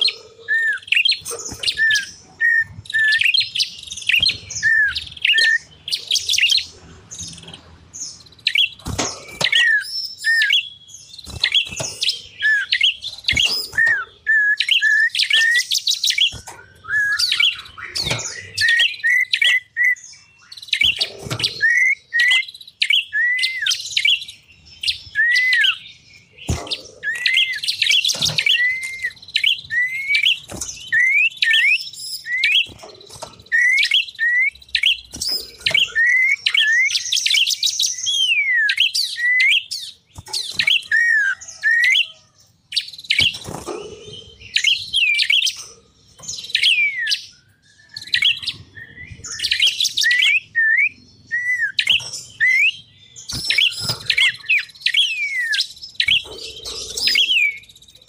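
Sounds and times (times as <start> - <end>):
songbirds chirping and whistling: 0.0 - 58.0.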